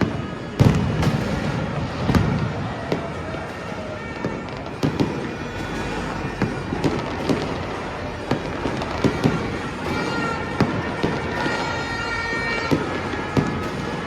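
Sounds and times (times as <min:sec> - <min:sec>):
fireworks banging: 0:00.0 - 0:14.0
fireworks crackling: 0:00.0 - 0:14.0.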